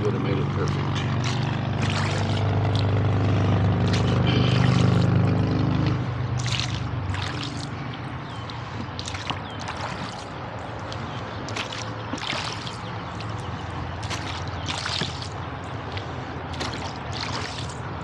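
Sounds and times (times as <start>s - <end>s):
engine drone: 0.0s - 18.0s
oars splashing in water: 0.0s - 18.0s.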